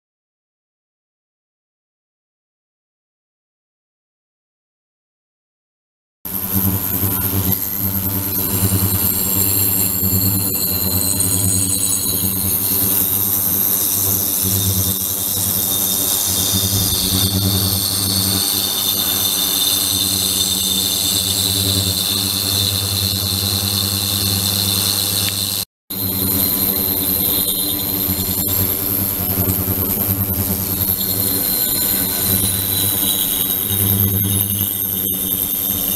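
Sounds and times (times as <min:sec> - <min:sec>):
ultrasonic tank buzzing hum: 0:06.3 - 0:35.9.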